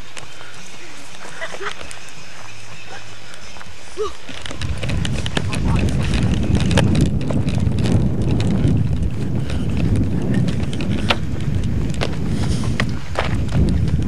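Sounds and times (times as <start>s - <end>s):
running footsteps on pavement: 0.0s - 14.0s
wind buffeting microphone: 0.0s - 14.0s.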